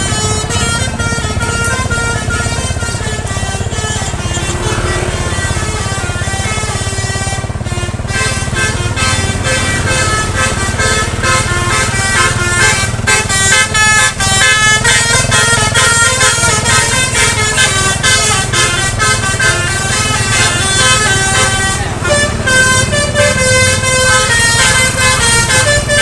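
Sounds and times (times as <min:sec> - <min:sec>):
multi-tone musical horn: 0:00.0 - 0:26.0.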